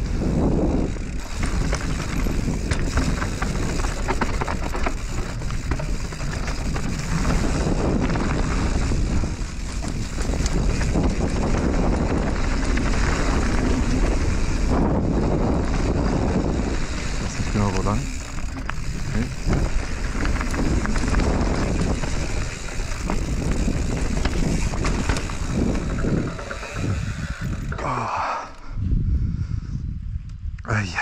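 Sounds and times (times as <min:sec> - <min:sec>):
bike tyres crunching on gravel: 0:00.0 - 0:27.9
bike rattling and clicking: 0:00.0 - 0:28.8
wind on microphone: 0:00.0 - 0:31.0.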